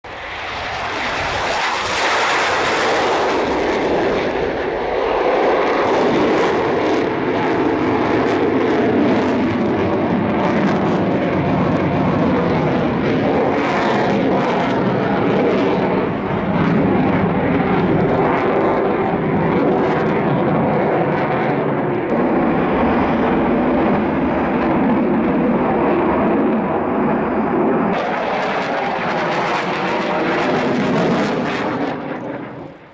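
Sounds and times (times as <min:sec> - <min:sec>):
fighter jet engine roar: 0:00.0 - 0:32.9.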